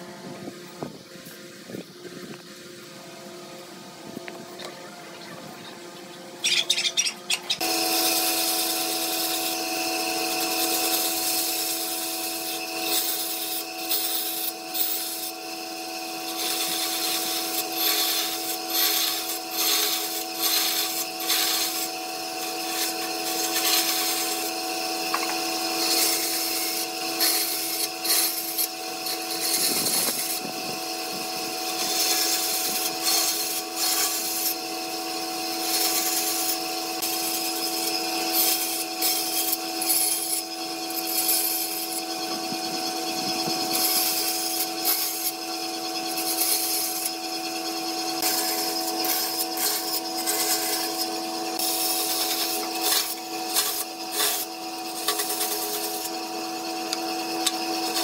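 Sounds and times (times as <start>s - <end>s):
bandsaw humming: 0.0s - 58.0s
saw blade cutting wood: 6.4s - 58.0s.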